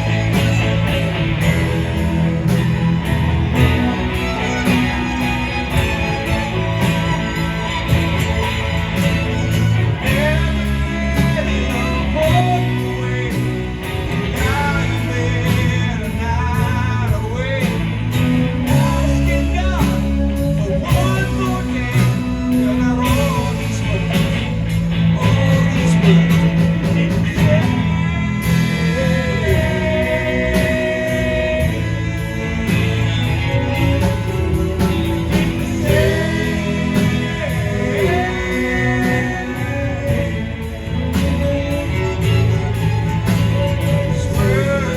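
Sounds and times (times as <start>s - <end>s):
bass line: 0.0s - 44.9s
bending melodic lead guitar: 0.0s - 44.9s
live band playing: 0.0s - 44.9s.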